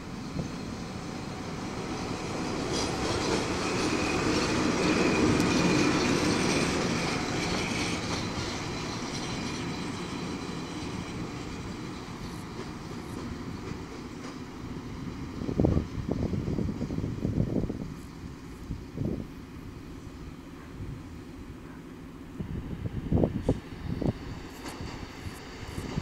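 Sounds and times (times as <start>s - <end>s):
electric locomotive passing: 0.0s - 26.0s.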